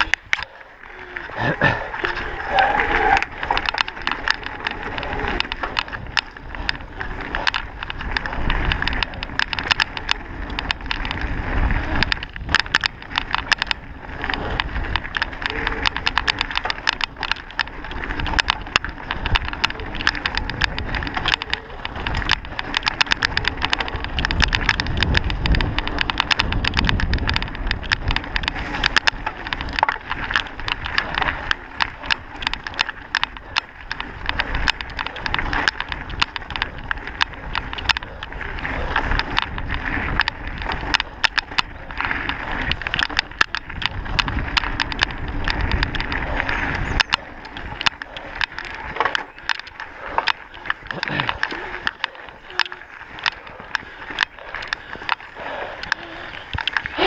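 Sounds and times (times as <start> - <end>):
bike rattling and knocking: 0.0 - 57.0
bike tyres on gravel trail: 0.0 - 57.0.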